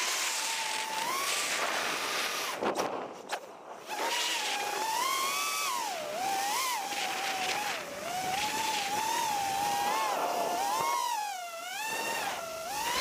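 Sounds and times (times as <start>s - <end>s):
drone motors whining: 0.0s - 2.8s, 3.7s - 13.0s.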